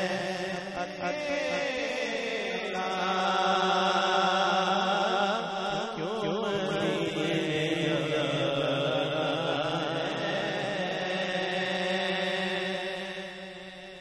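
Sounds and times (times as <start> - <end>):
steady held drone: 0.0 - 13.9
man singing into a microphone: 0.0 - 14.0.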